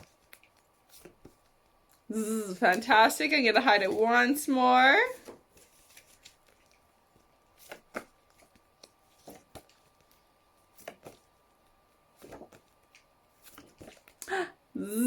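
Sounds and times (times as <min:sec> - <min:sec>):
cards being shuffled by hand: 0:00.0 - 0:04.1, 0:05.1 - 0:14.2.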